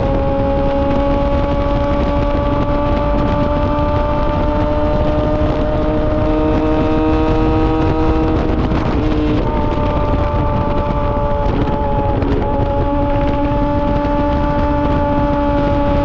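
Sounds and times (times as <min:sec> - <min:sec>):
motorcycle engine running: 0:00.0 - 0:16.0
steady rushing noise: 0:00.0 - 0:16.0.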